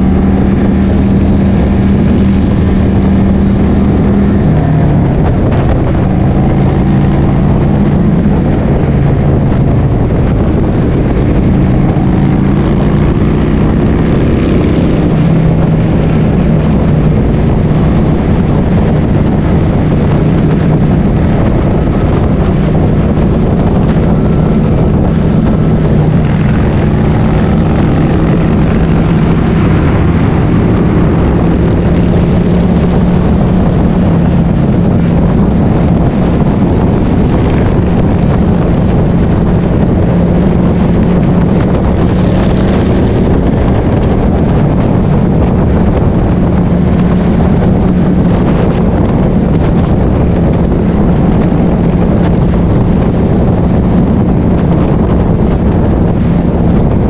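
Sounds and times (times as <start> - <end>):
motorcycle engine humming: 0.0 - 57.0
wind rush on microphone: 0.0 - 57.0.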